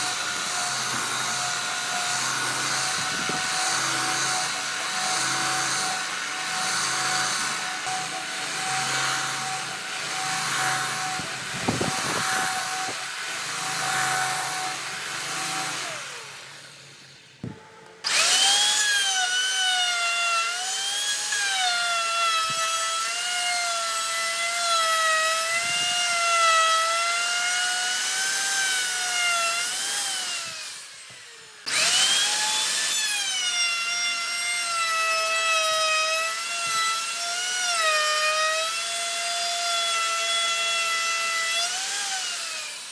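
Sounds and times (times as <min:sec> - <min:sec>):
power tool whining into wood: 0:00.0 - 0:42.9.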